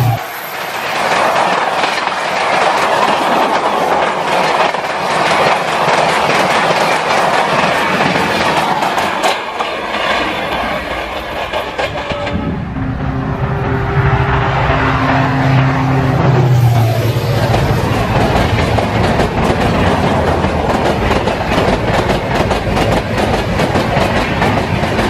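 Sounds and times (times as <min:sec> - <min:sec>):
train wheels clattering on rails: 0:00.1 - 0:12.6, 0:16.2 - 0:25.0.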